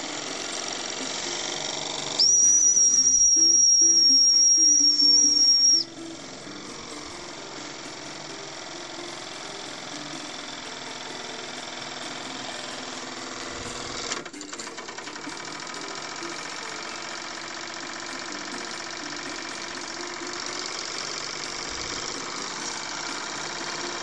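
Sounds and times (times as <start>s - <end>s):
model steam engine chattering: 0.0s - 24.0s.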